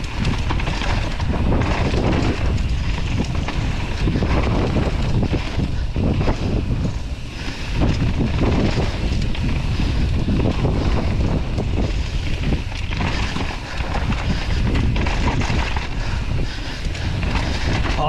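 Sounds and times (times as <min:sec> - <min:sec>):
bike knocks and rattles: 0:00.0 - 0:18.0
tyres rumbling on dirt trail: 0:00.0 - 0:18.0
wind buffeting microphone: 0:00.0 - 0:18.0.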